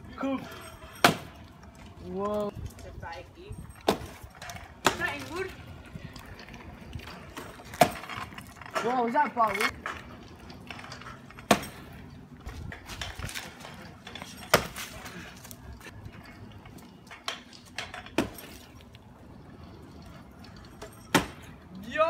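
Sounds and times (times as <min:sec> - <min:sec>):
scooter clattering on brick paving: 0:00.1 - 0:22.0.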